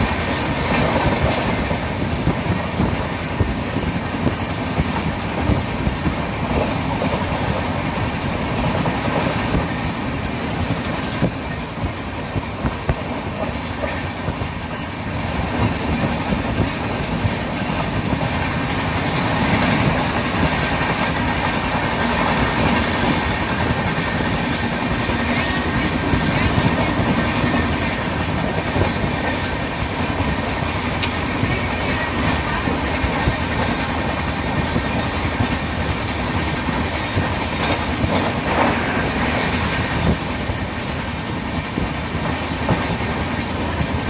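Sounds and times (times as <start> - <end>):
train coaches rumbling: 0.0 - 44.0
wheels clicking over rail joints: 0.0 - 44.0.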